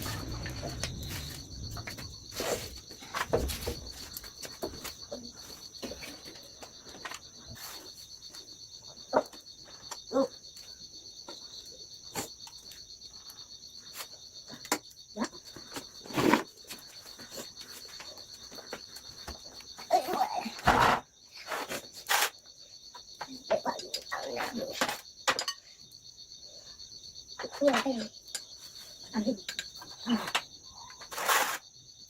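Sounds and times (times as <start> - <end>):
insect chorus: 0.0 - 32.0.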